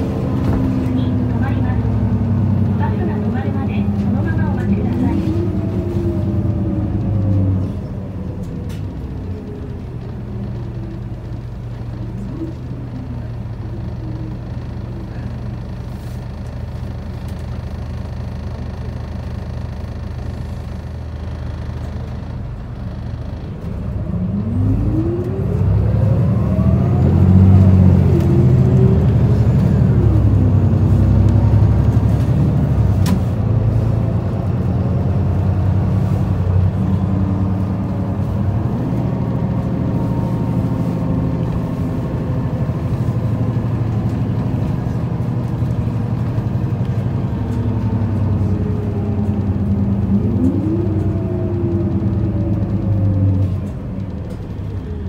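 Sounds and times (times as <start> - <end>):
bus engine humming: 0.0 - 55.0
engine whine accelerating: 0.0 - 55.0.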